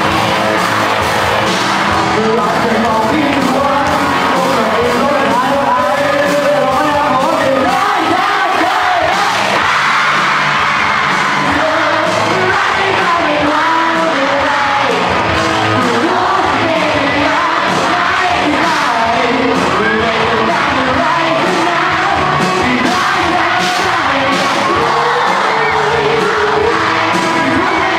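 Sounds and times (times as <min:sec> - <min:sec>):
drum kit: 0:00.0 - 0:27.9
electric guitars: 0:00.0 - 0:27.9
person singing into microphone: 0:02.1 - 0:10.2, 0:11.4 - 0:27.9.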